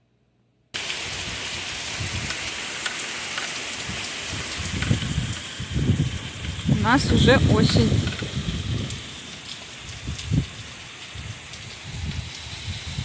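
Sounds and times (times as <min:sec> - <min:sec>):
heavy rain pouring: 0:00.8 - 0:13.0.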